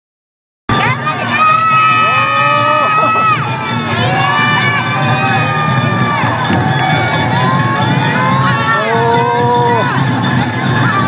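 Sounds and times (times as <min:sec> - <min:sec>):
crowd noise: 0:00.7 - 0:11.0
festival music: 0:00.7 - 0:11.0
crowd chanting: 0:00.8 - 0:11.0.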